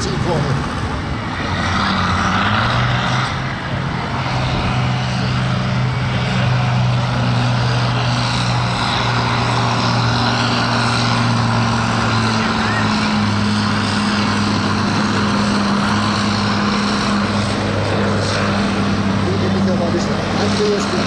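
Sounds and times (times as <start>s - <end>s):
tractor diesel engine running hard: 0.0s - 21.0s.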